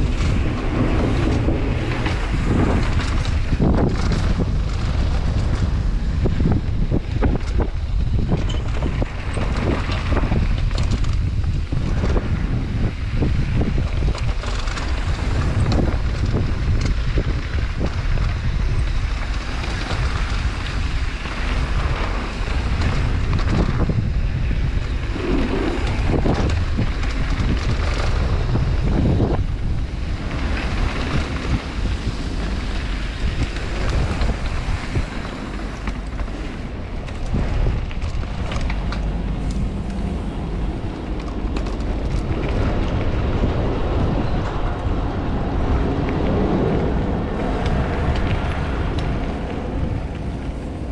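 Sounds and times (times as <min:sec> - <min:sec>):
bike knocks and rattles: 0:00.0 - 0:44.7
wind buffeting microphone: 0:00.0 - 0:50.9.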